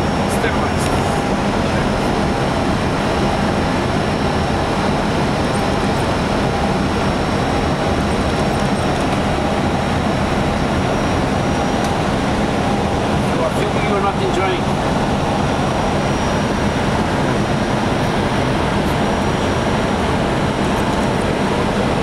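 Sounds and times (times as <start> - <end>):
airflow rush in cockpit: 0.0 - 22.0
engine and air-conditioning hum: 0.0 - 22.0
faint high steady whine: 0.0 - 22.0.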